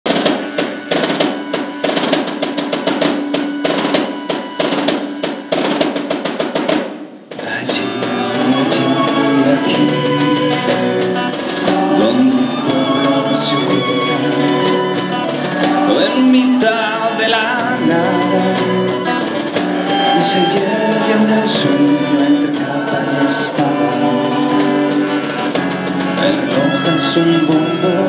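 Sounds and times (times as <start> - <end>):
violin: 0.1 - 6.3, 7.3 - 28.0
acoustic guitar: 0.1 - 28.0
snare drum roll: 0.1 - 28.0.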